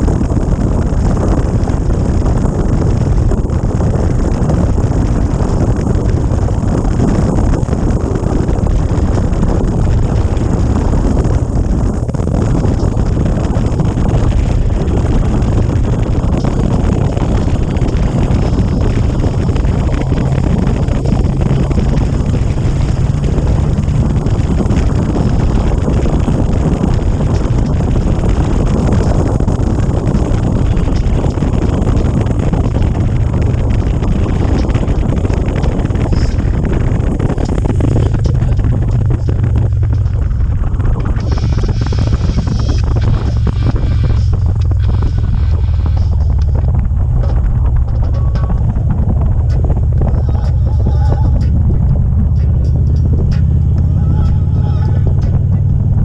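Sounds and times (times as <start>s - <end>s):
motorcycle engine and tyres: 0.0s - 56.0s
wind buffeting microphone: 0.0s - 56.0s.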